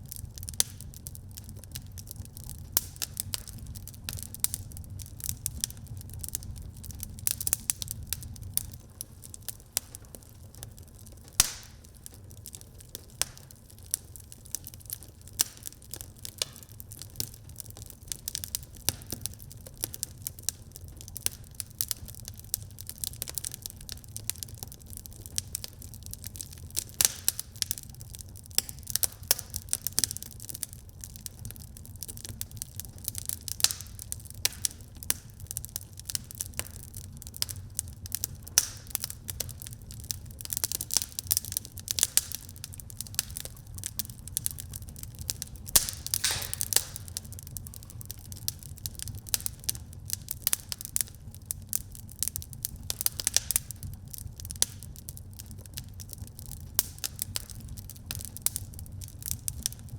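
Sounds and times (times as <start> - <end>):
low rumble of flame: 0.0 - 59.9
wood fire crackling: 0.0 - 59.9.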